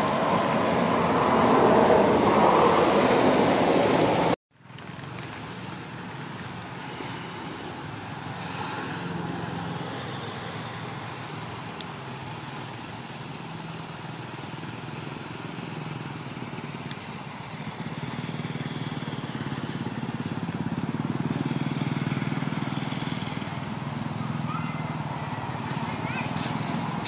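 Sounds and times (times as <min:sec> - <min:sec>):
motor engine running: 0:04.7 - 0:27.0.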